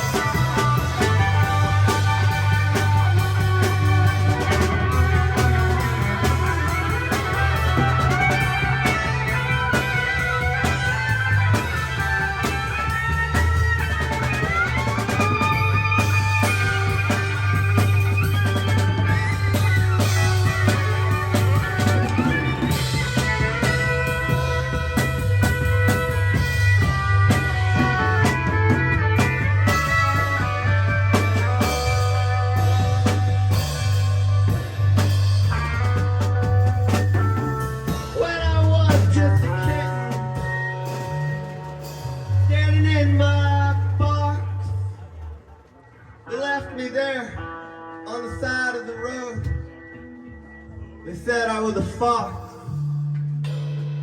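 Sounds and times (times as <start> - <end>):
steady drum beat: 0.0 - 44.4
bass guitar: 0.0 - 54.0
gliding electric guitar: 0.0 - 54.0.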